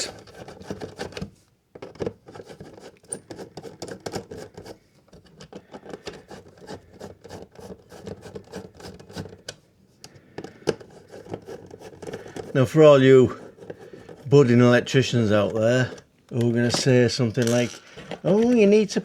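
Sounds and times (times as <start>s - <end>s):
plastic socket scratching and clicking: 0.0s - 12.7s, 13.4s - 18.7s.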